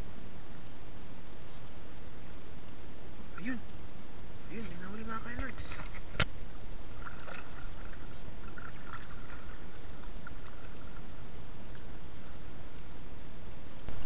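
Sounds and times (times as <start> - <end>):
muffled underwater water rush: 0.0 - 14.0.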